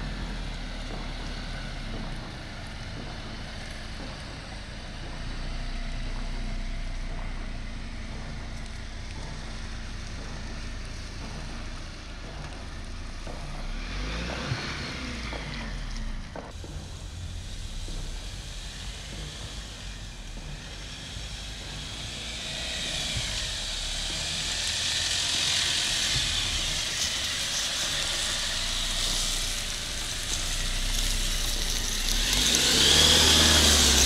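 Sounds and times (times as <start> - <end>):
vehicle engine pulling off-road: 0.0 - 34.0.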